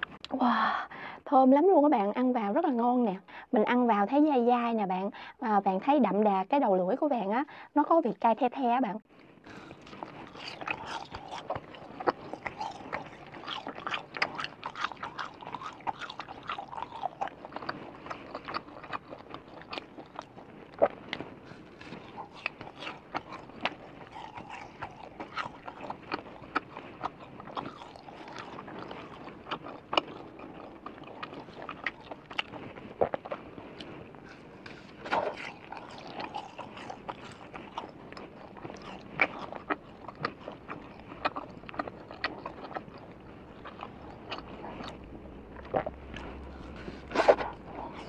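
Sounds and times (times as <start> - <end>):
person chewing: 9.1 - 48.0.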